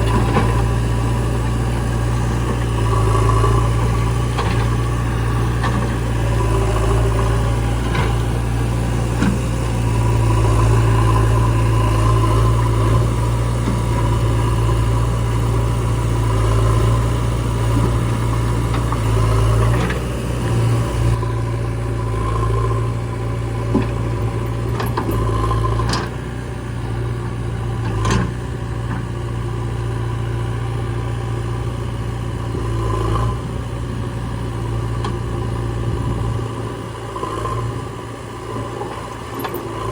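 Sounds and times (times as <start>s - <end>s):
backhoe diesel engine droning: 0.0s - 39.9s.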